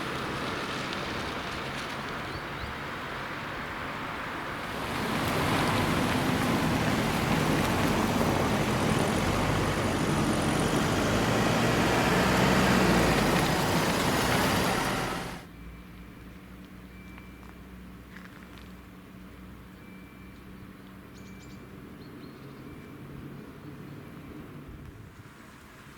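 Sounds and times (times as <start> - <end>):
road vehicle noise: 0.0 - 25.9.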